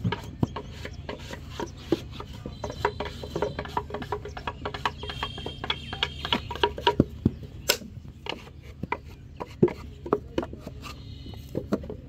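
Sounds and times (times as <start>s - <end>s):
hand tool scraping clay brick: 0.0s - 7.4s, 8.2s - 12.0s.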